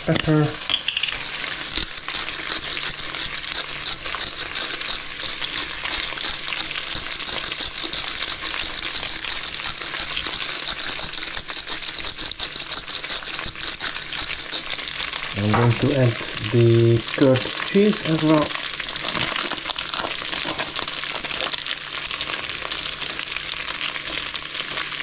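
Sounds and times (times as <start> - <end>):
bacon and pasta sizzling in a pan: 0.0 - 25.0.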